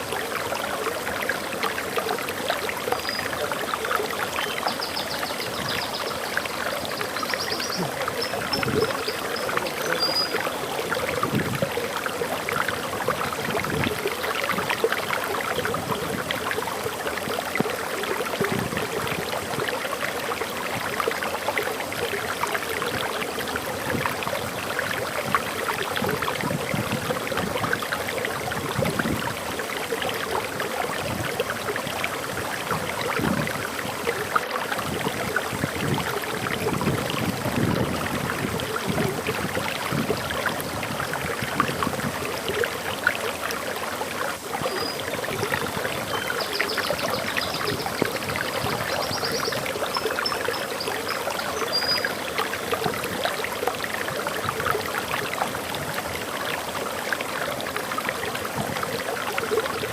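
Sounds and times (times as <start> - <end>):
water splashing over rocks: 0.0 - 59.9.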